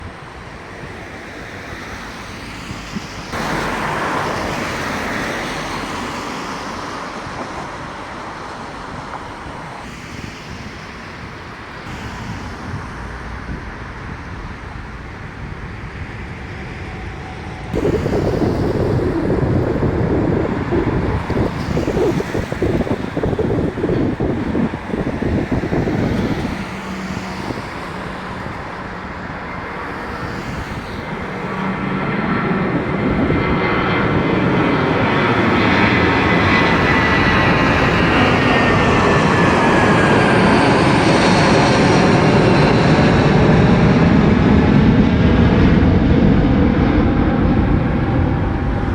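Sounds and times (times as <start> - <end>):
distant jet engines roaring: 0.0 - 48.9.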